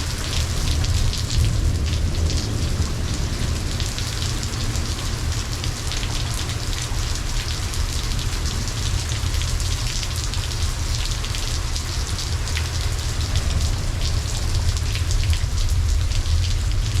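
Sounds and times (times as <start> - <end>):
constant low rumble: 0.0 - 17.0
heavy rain pattering: 0.0 - 17.0.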